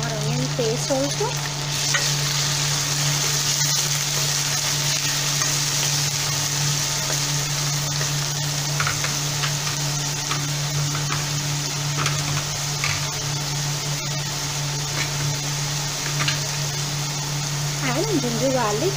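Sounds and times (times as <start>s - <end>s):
onions sizzling in oil: 0.0s - 18.9s.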